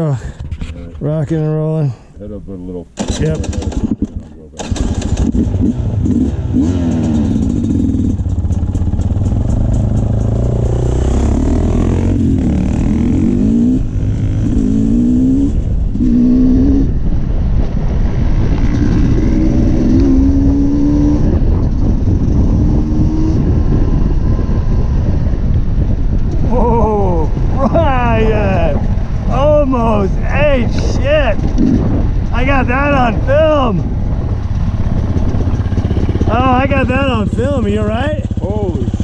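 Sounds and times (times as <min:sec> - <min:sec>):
steady low rumble: 0:00.0 - 0:39.0
dirt bike engine revving: 0:03.0 - 0:17.0, 0:18.2 - 0:25.4, 0:26.4 - 0:39.0.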